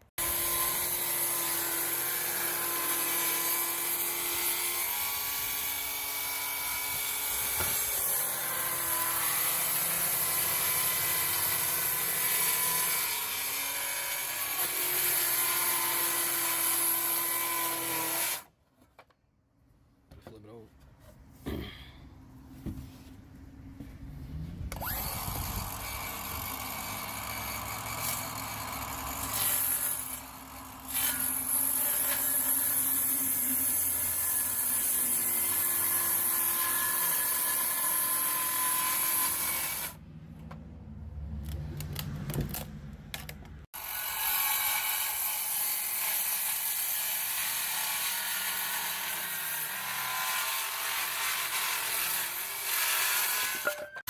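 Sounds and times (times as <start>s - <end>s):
circular saw cutting wood: 0.0s - 18.5s, 24.7s - 40.0s, 43.7s - 54.0s.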